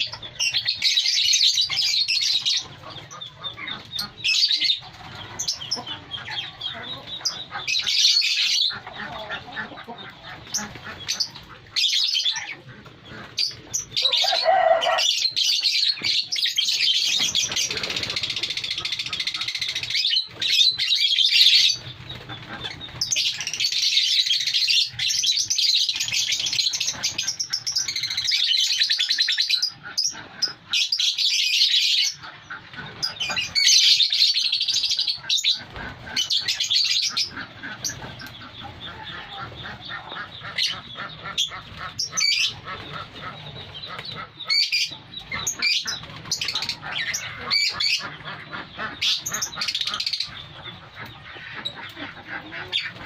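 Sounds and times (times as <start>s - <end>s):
lovebirds chattering and screeching: 0.0s - 53.0s.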